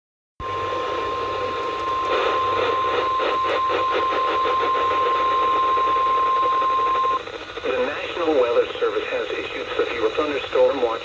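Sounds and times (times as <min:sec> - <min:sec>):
radio static hiss: 0:00.4 - 0:11.0.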